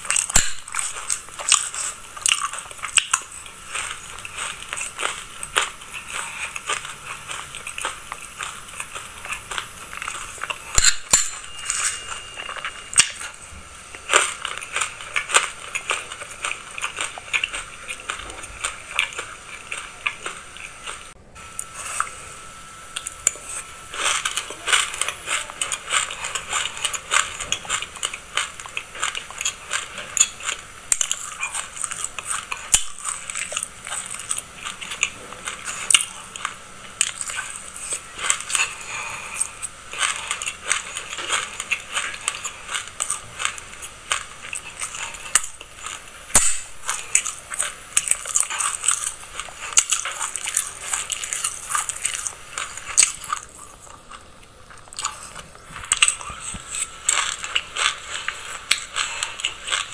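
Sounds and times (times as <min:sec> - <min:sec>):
chewing crunchy seeds: 0:00.0 - 0:59.9.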